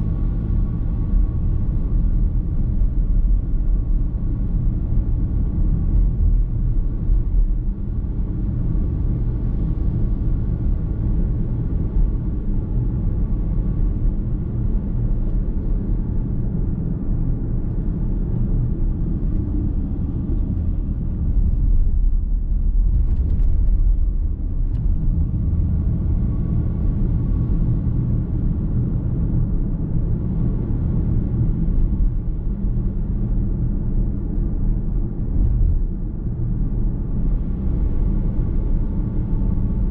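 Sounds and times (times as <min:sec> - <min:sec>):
car cabin road noise: 0:00.0 - 0:39.9.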